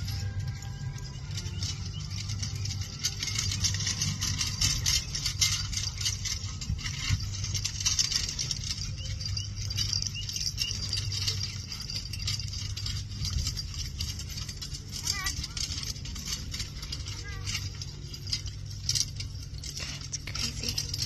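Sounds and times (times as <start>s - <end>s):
harness jingling and rattling: 0.0s - 21.0s
steady low hum: 0.0s - 21.0s.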